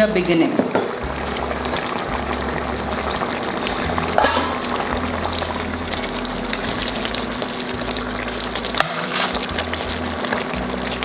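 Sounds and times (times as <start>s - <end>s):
curry bubbling in a pot: 0.2s - 11.0s
background music with bass line: 1.0s - 11.0s.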